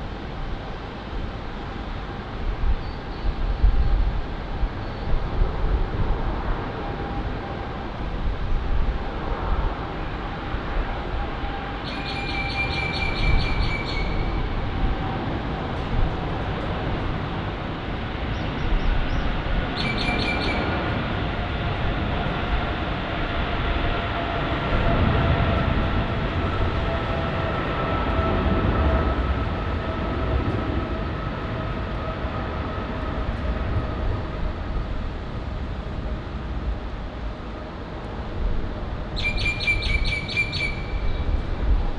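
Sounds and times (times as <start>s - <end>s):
jet engine whine: 0.0s - 41.9s
jet engines rumbling: 0.0s - 41.9s.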